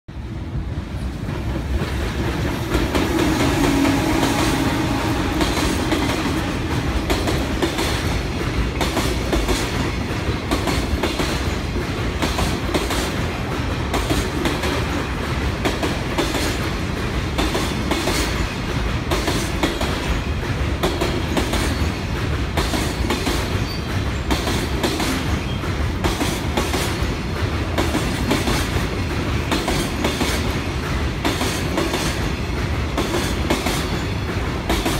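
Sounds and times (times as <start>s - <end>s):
train wheels clacking on rails: 0.1s - 34.9s.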